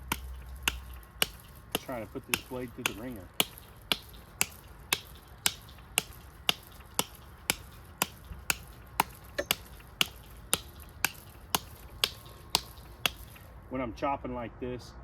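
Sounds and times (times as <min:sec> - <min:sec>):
knife chopping wood: 0:00.0 - 0:13.5.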